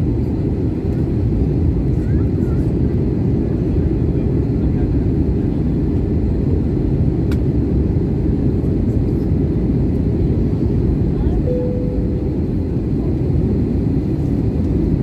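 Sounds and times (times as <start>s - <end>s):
jet airliner cabin noise: 0.0s - 15.0s.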